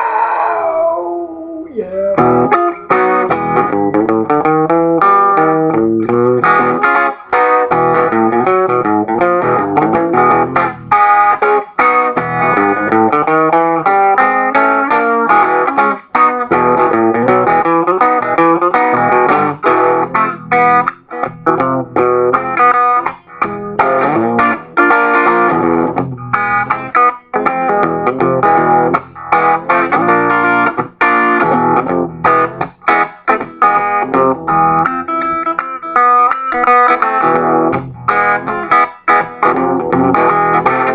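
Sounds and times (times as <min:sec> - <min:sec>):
electric guitar blues-boogie playing: 0:00.0 - 0:40.9.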